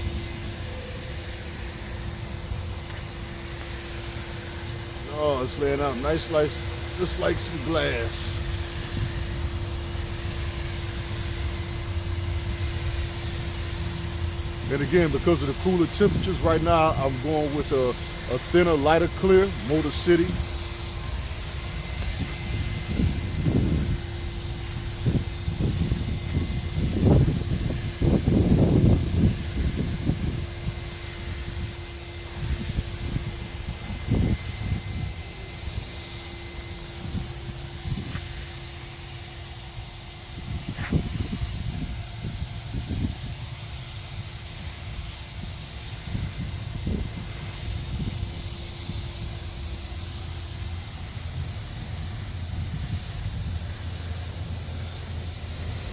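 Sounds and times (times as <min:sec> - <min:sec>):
spray gun hissing: 0:00.0 - 0:55.9
steady low hum: 0:00.0 - 0:55.9.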